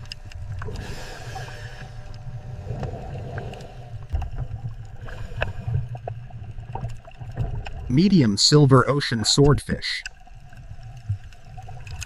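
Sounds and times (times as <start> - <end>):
low rumbling water: 0.0 - 12.0.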